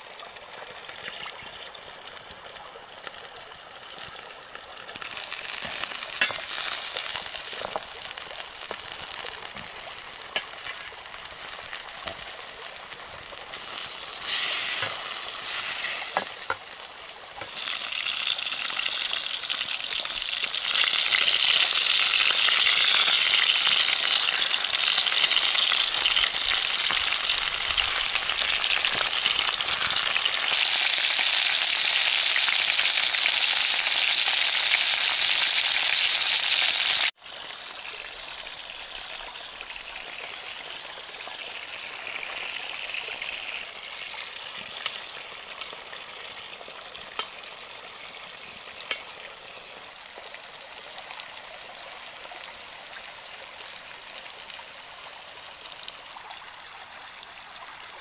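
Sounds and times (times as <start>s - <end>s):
food sizzling in frying pan: 0.0s - 51.8s.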